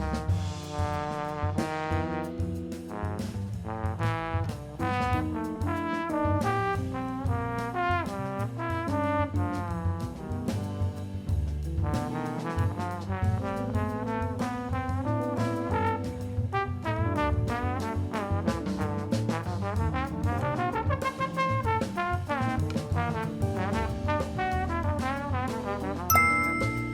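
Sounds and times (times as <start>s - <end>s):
backing track with bass: 0.0s - 26.9s.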